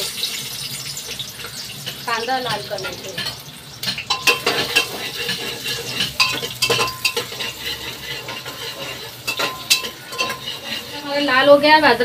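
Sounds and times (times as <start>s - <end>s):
onions sizzling in oil: 0.0s - 12.0s
metal spoon scraping a pot: 0.2s - 11.7s.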